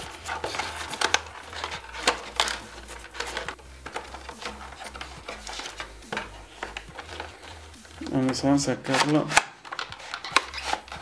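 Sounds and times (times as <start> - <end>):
cardboard and plastic packaging handled: 0.0 - 11.0.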